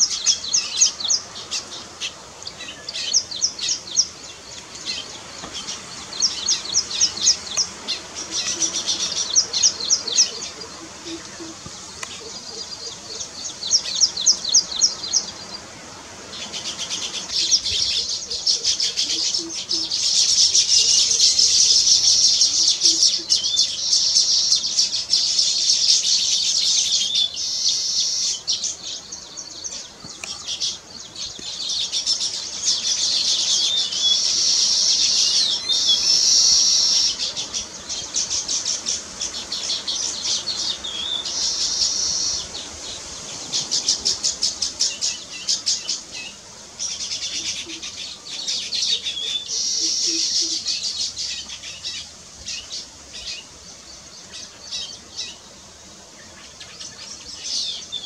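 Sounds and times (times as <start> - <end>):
birds chattering: 0.0 - 58.0.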